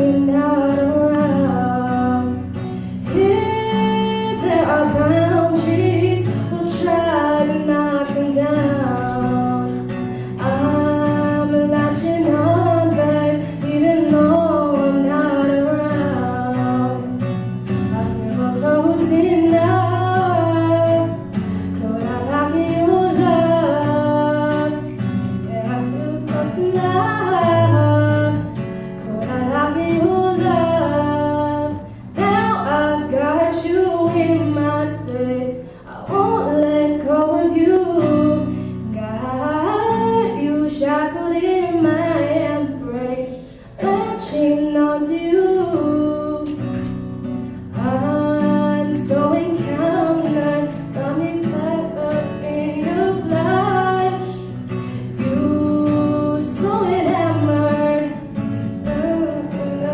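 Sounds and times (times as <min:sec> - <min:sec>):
woman singing pop ballad: 0:00.0 - 0:46.9, 0:47.6 - 0:59.9
guitar accompaniment: 0:00.0 - 0:59.9.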